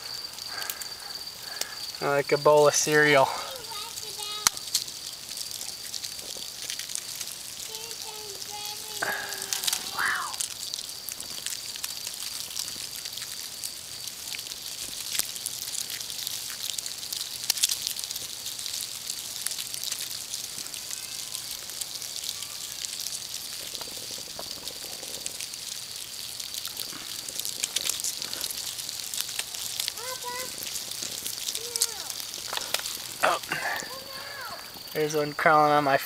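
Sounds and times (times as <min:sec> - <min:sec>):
cicadas crackling: 0:00.0 - 0:36.0.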